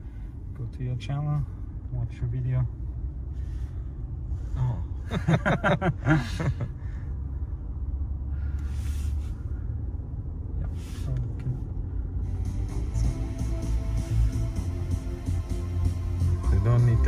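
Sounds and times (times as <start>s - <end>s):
road and tyre rumble: 0.0s - 17.0s.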